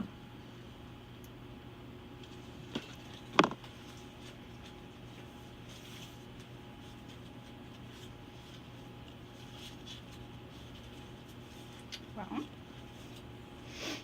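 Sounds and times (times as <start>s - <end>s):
low equipment hum: 0.0s - 14.0s.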